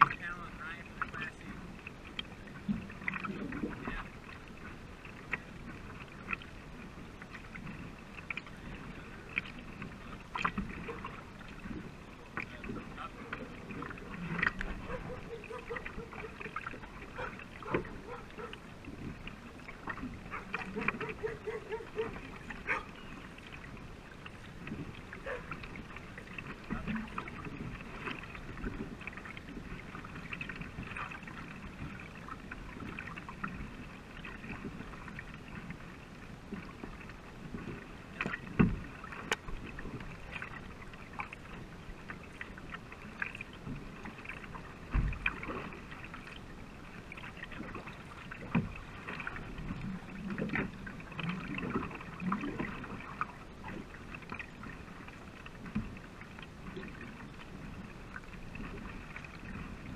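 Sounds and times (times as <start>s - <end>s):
paddles pulling through water: 0.0s - 59.9s
water splashing along hull: 0.0s - 59.9s.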